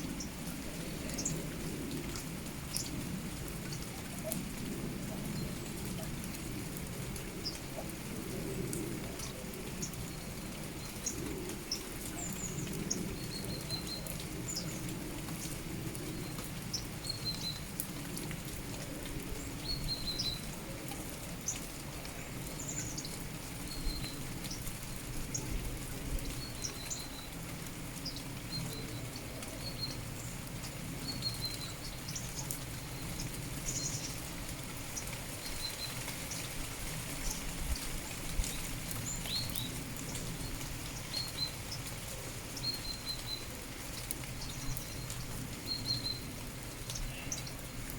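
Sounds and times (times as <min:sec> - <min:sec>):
rain patter: 0:00.0 - 0:47.9
songbirds chirping: 0:00.0 - 0:47.9.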